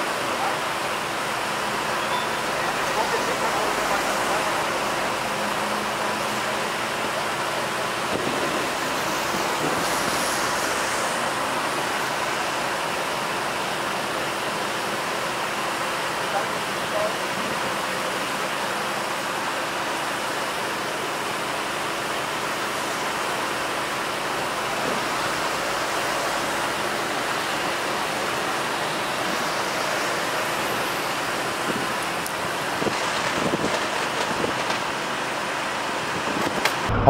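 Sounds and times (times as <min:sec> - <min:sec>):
motorway traffic rushing: 0:00.0 - 0:37.0.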